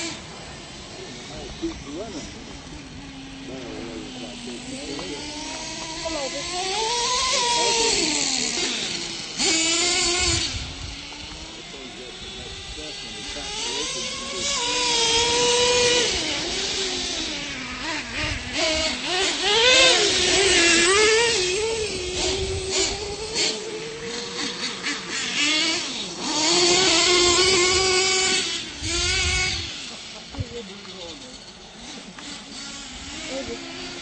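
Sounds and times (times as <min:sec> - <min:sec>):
toy truck motors whining: 0:00.0 - 0:34.0.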